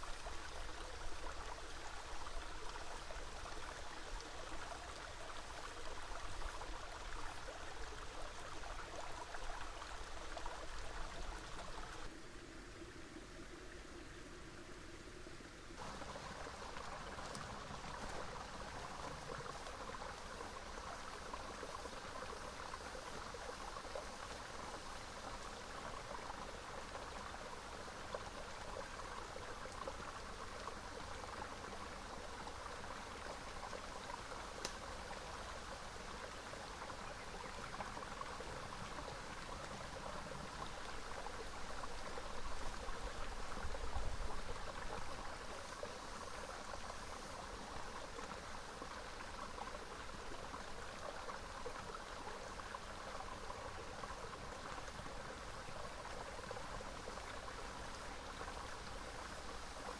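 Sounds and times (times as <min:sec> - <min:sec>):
small river flowing: 0:00.0 - 0:59.9.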